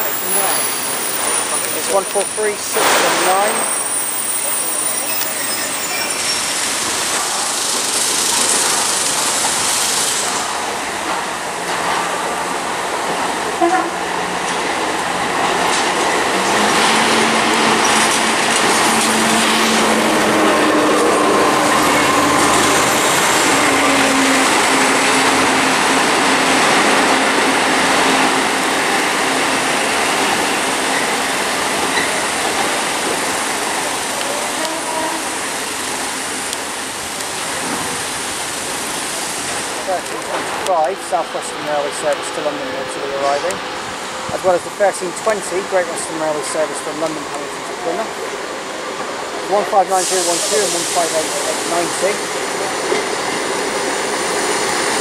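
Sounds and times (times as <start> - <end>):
diesel train rumbling: 0.0 - 55.0.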